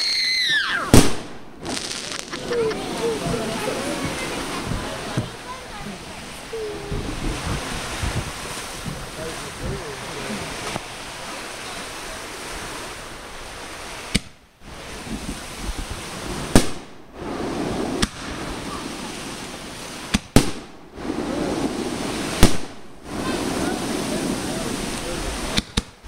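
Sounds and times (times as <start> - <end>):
fireworks bursting with sharp bangs: 0.0 - 26.0
steady background hiss: 0.0 - 26.0.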